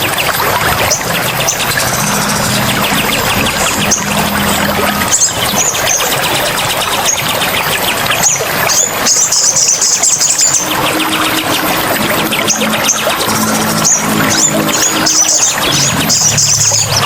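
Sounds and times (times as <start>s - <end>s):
fast high bird trill: 0.0s - 17.0s
small birds chirping: 0.0s - 17.0s
steady rushing background: 0.0s - 17.0s.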